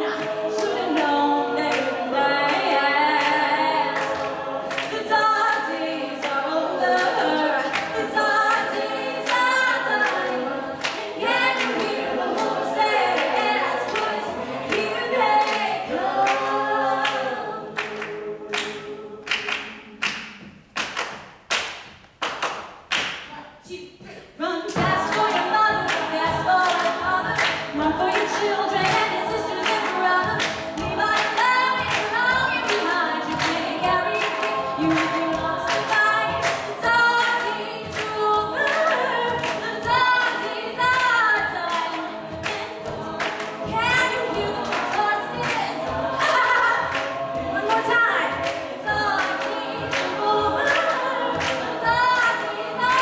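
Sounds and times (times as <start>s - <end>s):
a cappella group singing: 0.0s - 20.5s, 24.2s - 53.0s.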